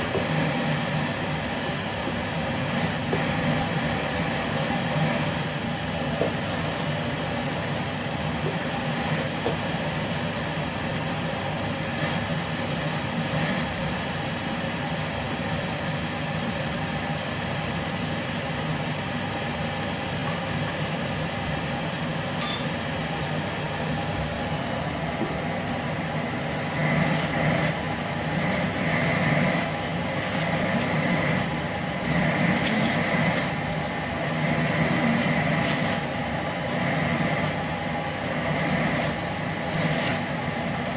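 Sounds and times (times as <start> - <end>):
vacuum cleaner motor running: 0.0 - 40.9.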